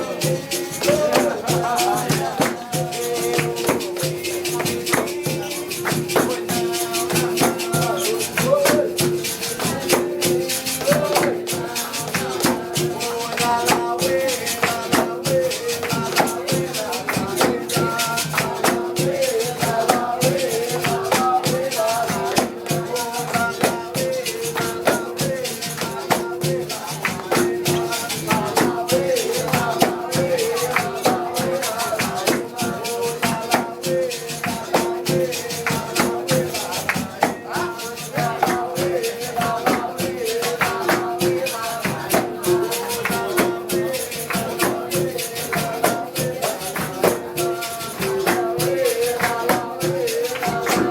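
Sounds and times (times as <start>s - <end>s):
hand percussion: 0.0s - 50.9s
people singing: 0.0s - 50.9s
shaken rattle: 0.0s - 50.9s.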